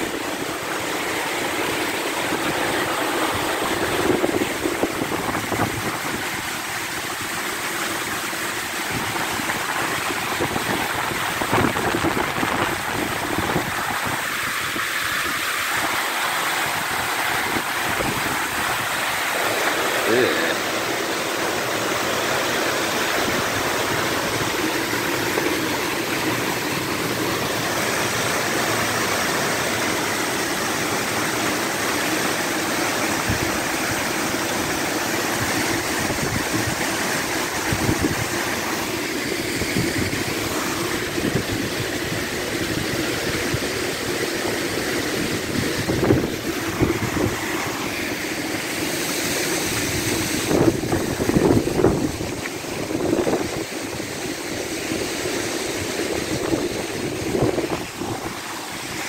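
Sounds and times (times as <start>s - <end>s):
water rushing down stone steps: 0.0s - 59.0s.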